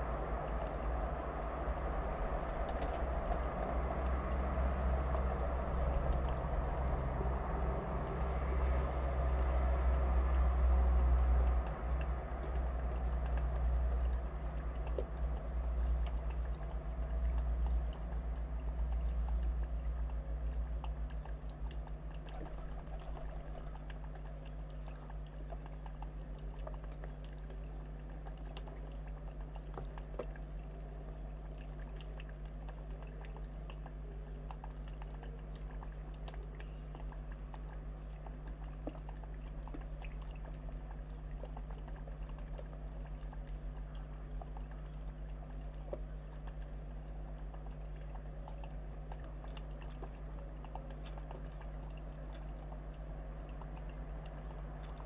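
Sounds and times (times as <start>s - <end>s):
low rumble: 0.0s - 55.0s
steady low hum: 0.0s - 55.0s.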